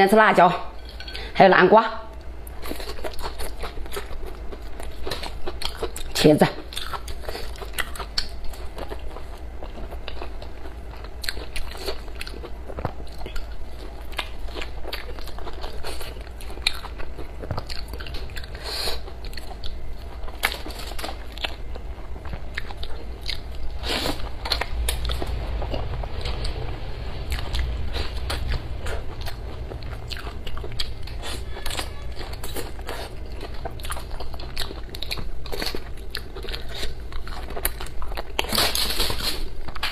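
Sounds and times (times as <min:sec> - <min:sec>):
food crunching: 0:02.4 - 0:39.9
person chewing food: 0:02.4 - 0:39.9.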